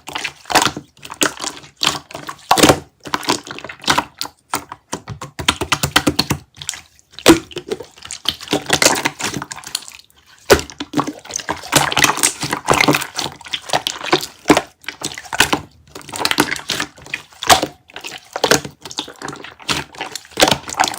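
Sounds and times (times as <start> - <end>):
chewing jelly: 0.0 - 4.9, 6.4 - 20.9.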